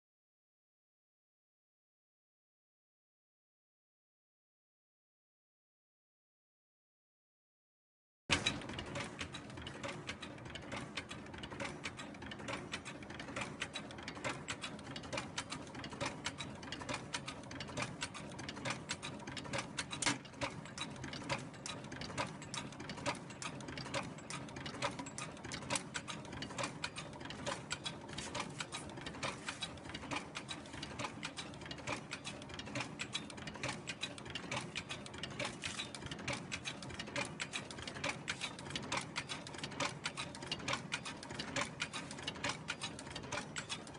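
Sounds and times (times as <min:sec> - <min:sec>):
wrapping machine clattering: 0:08.3 - 0:43.9.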